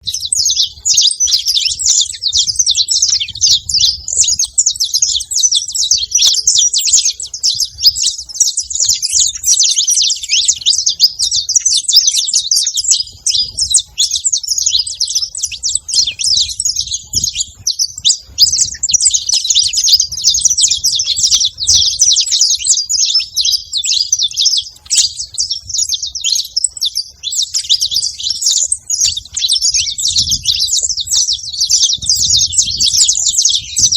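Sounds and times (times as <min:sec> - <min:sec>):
finch chirping: 0:00.0 - 0:33.9.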